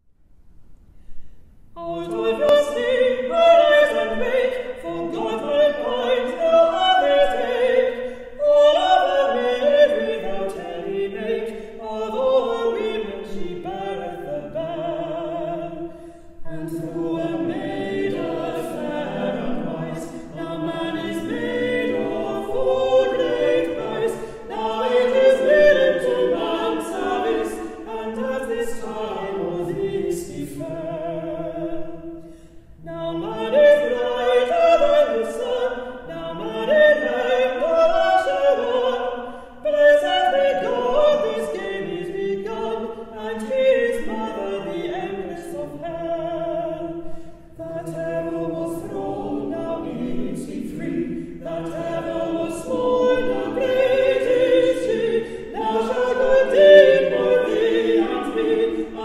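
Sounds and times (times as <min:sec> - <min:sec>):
vocal quartet singing a cappella: 0:01.5 - 0:59.0.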